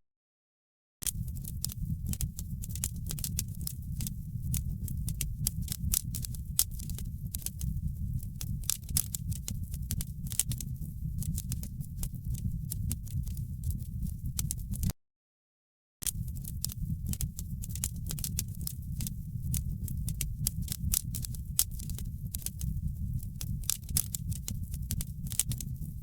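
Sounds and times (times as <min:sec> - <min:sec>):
wood fire crackling: 0:01.1 - 0:14.9, 0:16.0 - 0:26.0.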